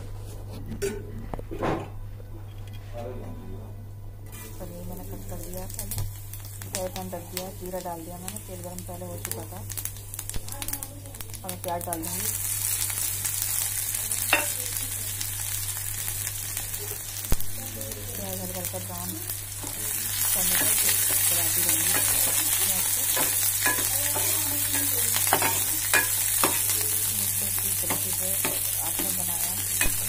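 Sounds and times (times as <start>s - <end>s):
onions sizzling in hot oil: 4.3s - 30.0s.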